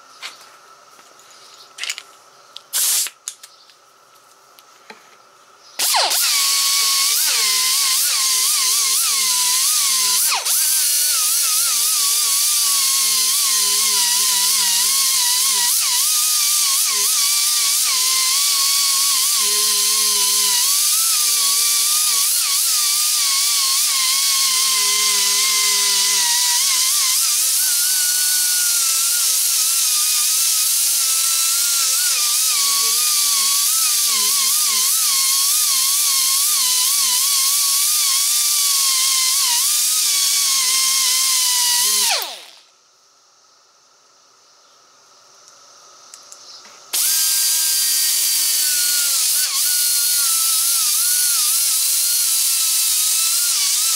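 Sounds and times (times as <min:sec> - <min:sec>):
air grinder whining on steel: 0:05.8 - 0:42.7, 0:47.0 - 0:53.9.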